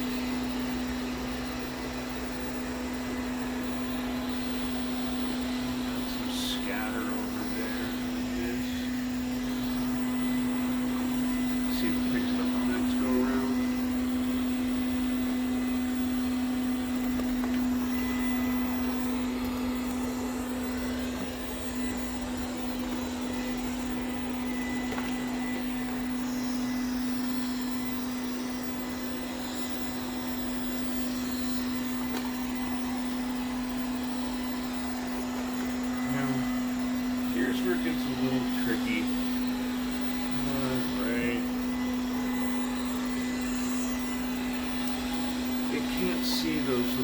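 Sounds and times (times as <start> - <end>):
robot vacuum motor hum: 0.0 - 47.0.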